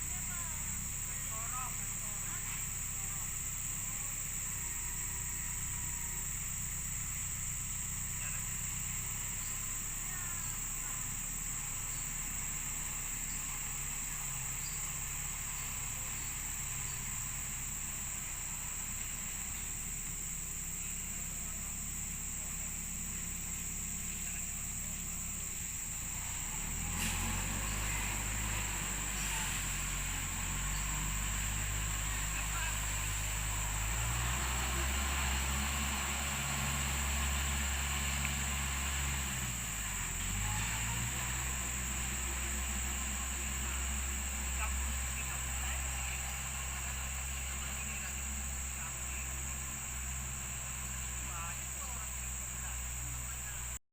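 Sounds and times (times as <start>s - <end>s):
high-pitched hiss: 0.0s - 53.8s
insects droning: 0.0s - 53.8s
low engine hum: 0.0s - 53.8s.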